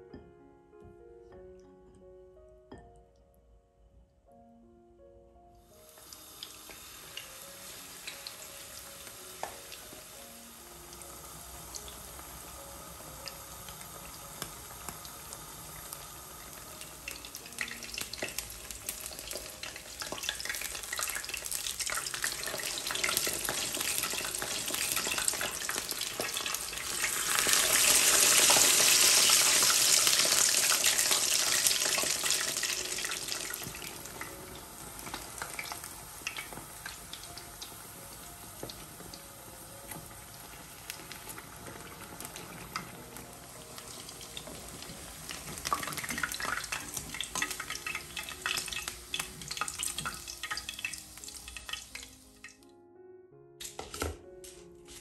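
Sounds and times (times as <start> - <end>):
mushrooms frying in hot oil: 5.8 - 52.4.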